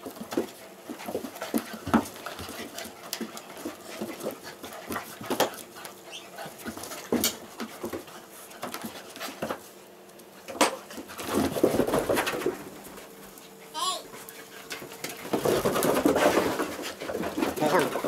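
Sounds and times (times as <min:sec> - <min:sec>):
dogs wrestling and barking: 0:00.0 - 0:18.0.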